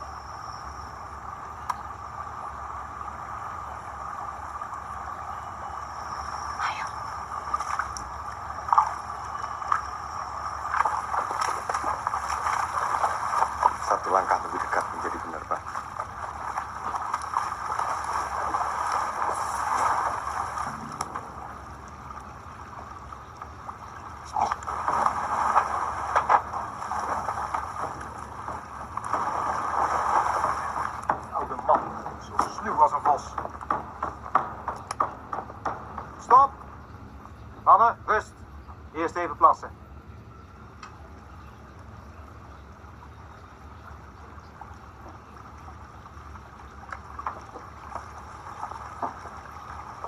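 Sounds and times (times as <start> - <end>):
river water flowing: 0.0 - 50.0
water splashes: 0.0 - 50.0.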